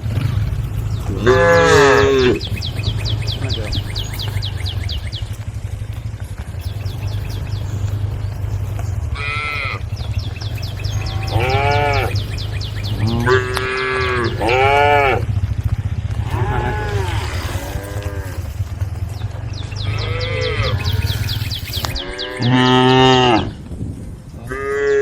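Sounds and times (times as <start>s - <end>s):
cows mooing: 0.0s - 5.2s, 6.6s - 23.6s, 24.4s - 25.0s.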